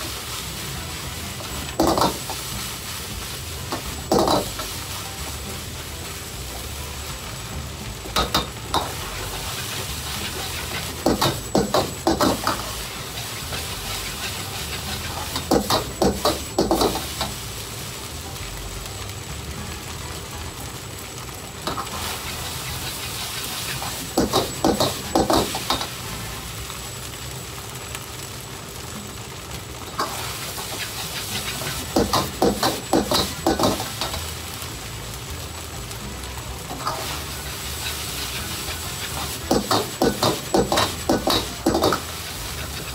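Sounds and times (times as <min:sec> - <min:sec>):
rice sizzling in a wok: 0:00.0 - 0:42.9.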